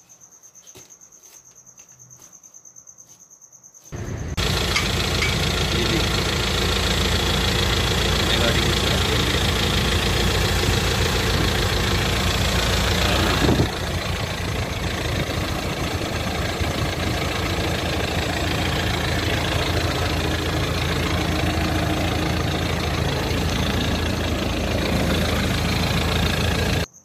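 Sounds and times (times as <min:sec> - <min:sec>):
engine idling: 0:04.0 - 0:26.9.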